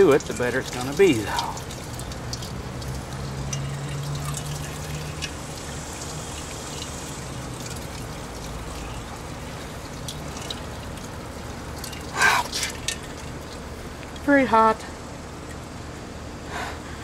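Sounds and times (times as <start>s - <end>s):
liquid dribbling into a colander: 0.0s - 16.0s.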